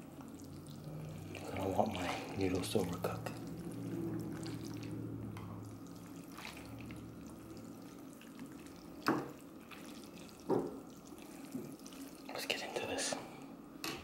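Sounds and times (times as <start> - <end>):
broth sloshing and dripping: 0.0 - 12.4.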